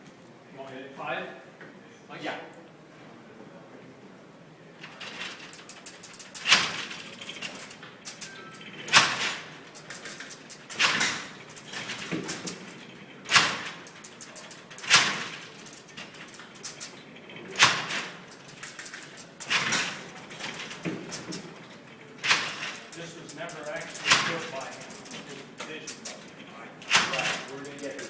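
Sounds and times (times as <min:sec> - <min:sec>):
metal wheels and levers clattering: 0:04.8 - 0:28.0.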